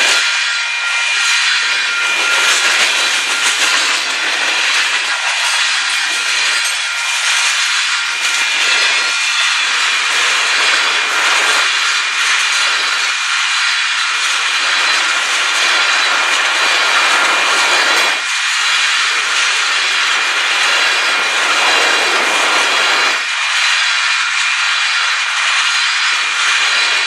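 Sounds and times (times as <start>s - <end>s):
freight train wheels on rail: 0.0s - 27.0s
thin high ringing tones: 0.0s - 27.0s.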